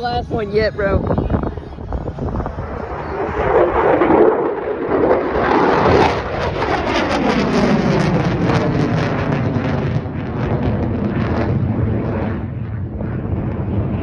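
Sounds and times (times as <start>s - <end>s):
jet aircraft roaring past: 0.0s - 14.0s.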